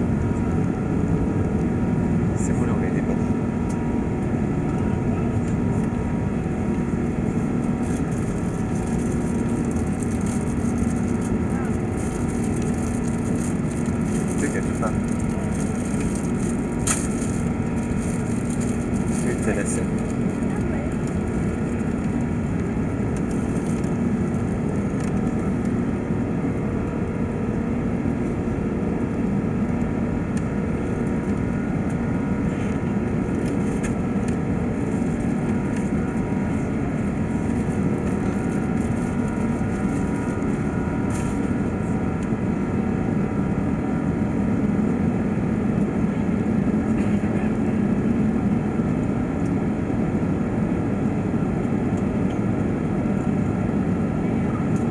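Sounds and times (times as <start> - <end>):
jet engine cabin rumble: 0.0 - 54.9.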